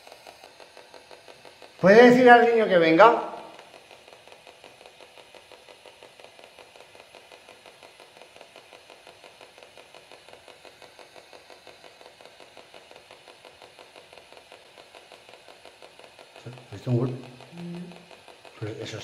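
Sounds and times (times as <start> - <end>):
faint rhythmic device pulsing: 0.0 - 19.0.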